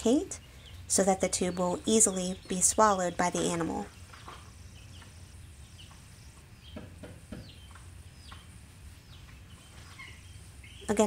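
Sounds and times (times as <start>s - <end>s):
low steady hum: 0.0s - 11.0s
small bird chirping: 0.0s - 11.0s.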